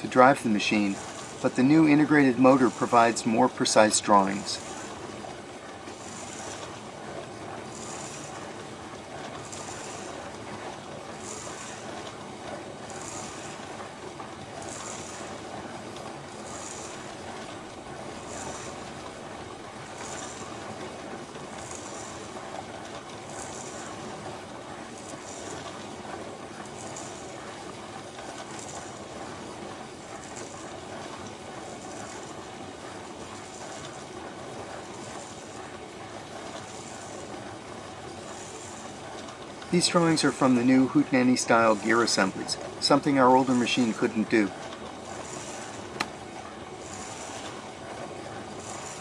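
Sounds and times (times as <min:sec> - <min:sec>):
gears whirring: 0:00.0 - 0:49.0.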